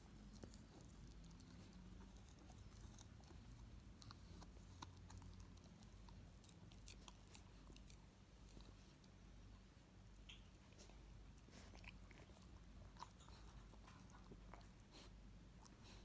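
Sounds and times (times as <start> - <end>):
low steady hum: 0.0 - 16.0
puppy teeth gnawing fruit: 0.0 - 16.0.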